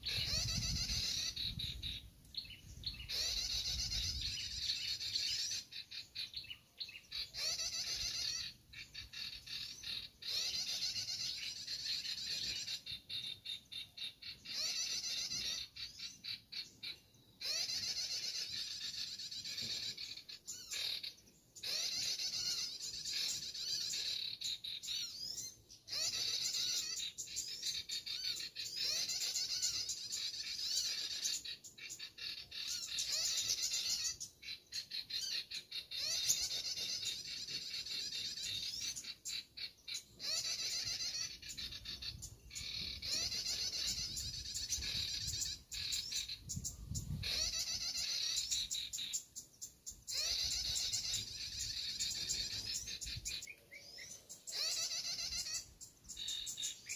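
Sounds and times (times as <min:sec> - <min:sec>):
recorded bird call through speaker: 0:00.0 - 0:56.9
songbirds chirping rapidly: 0:00.0 - 0:56.9.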